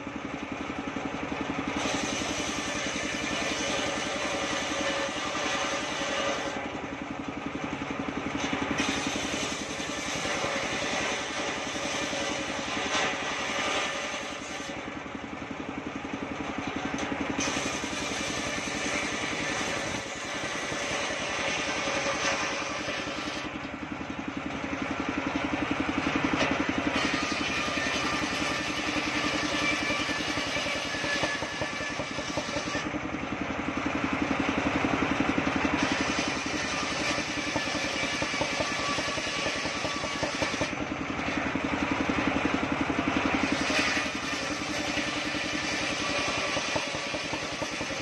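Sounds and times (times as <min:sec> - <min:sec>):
circular saw cutting boards: 0:00.7 - 0:33.2, 0:35.2 - 0:48.0.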